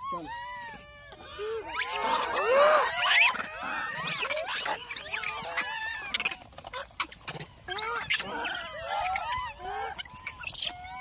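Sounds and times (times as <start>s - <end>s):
monkeys squealing and chirping: 0.0s - 11.0s.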